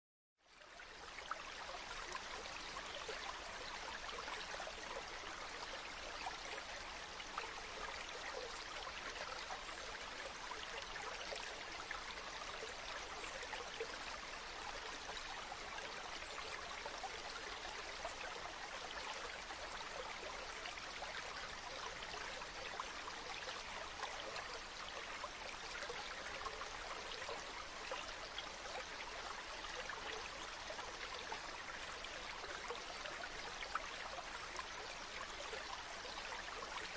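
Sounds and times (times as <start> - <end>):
stream running water: 0.4 - 36.9.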